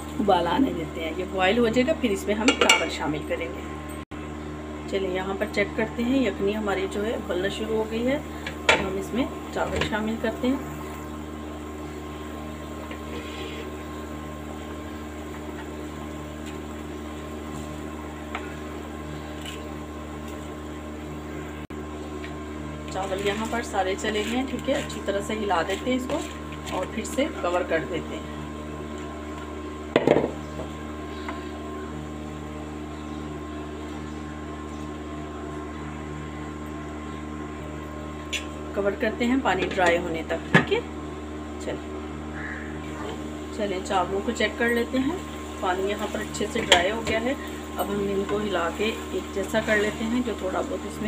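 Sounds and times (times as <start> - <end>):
broth boiling: 0.0 - 51.0
steady low hum: 0.0 - 51.0.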